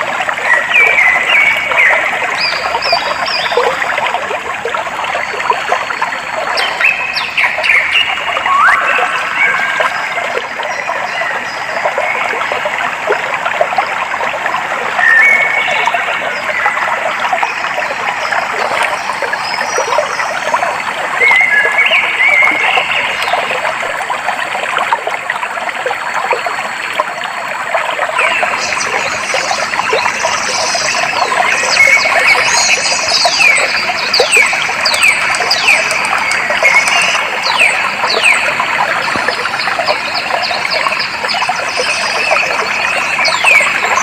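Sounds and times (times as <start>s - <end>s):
stream water trickling: 0.0s - 44.0s.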